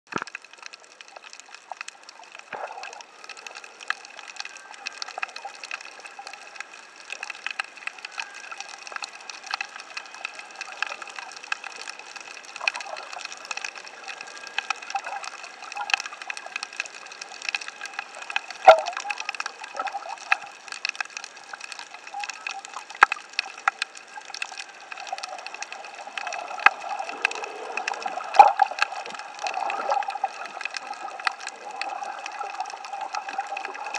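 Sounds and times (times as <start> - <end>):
sharp clicks and crackles: 0.1 - 33.9
underwater water wash with gurgling: 0.1 - 33.9.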